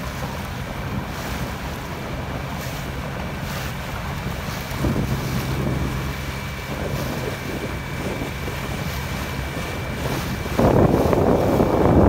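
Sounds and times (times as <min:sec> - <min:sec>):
waves lapping: 0:00.0 - 0:12.0
wind buffeting microphone: 0:00.0 - 0:12.0.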